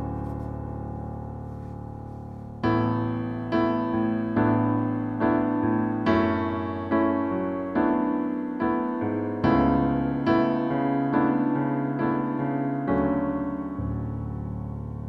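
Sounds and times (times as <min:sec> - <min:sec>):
soft keyboard chords: 0:00.0 - 0:15.0.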